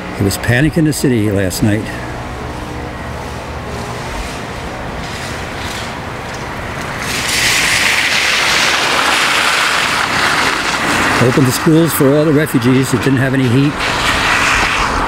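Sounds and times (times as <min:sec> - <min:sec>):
low street rumble: 0:00.0 - 0:15.0
car tyres hissing on snow: 0:01.4 - 0:15.0.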